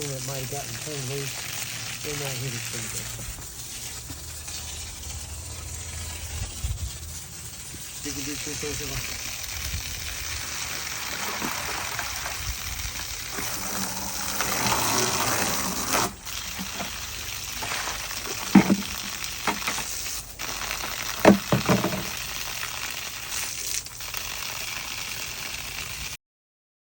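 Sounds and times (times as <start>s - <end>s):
water running from hose: 0.0s - 26.2s.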